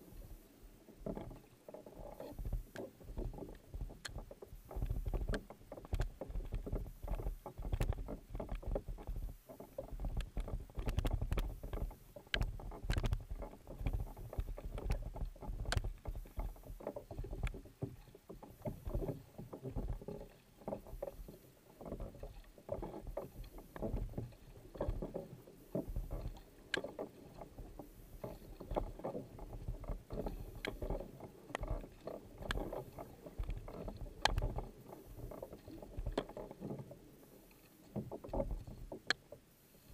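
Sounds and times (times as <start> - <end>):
paddle splashing in water: 0.0 - 39.9
water washing along hull: 0.0 - 39.9.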